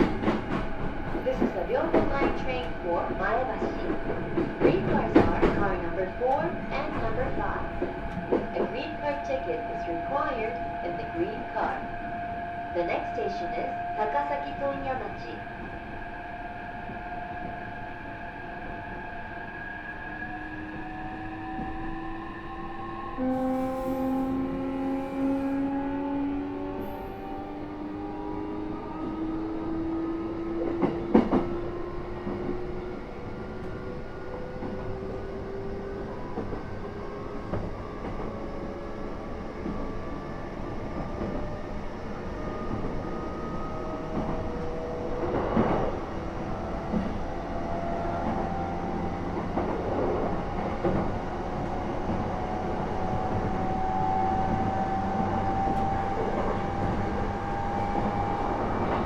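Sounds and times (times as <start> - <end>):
train rolling rumble: 0.0 - 16.2, 20.5 - 59.0.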